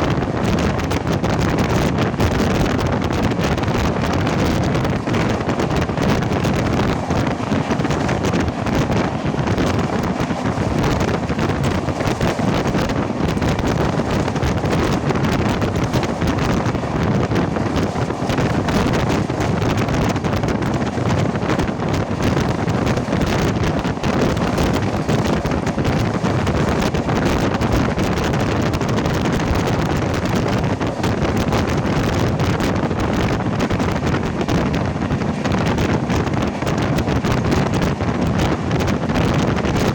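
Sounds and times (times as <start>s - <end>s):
train running at speed: 0.0s - 39.9s
wind over microphone: 0.0s - 39.9s.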